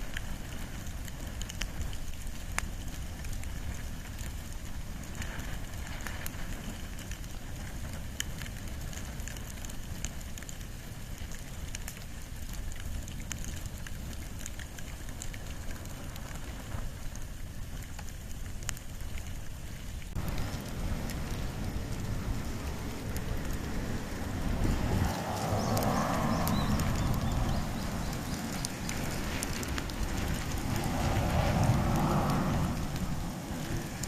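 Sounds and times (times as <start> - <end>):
fire crackles: 0.0 - 34.0
fire rushing: 0.0 - 34.0.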